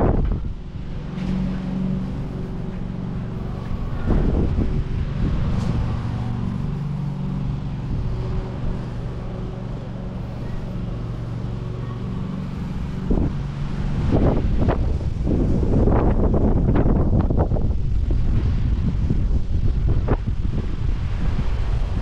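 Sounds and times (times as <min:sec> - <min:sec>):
low mechanical hum: 0:00.0 - 0:22.0
wind buffeting microphone: 0:00.0 - 0:22.0.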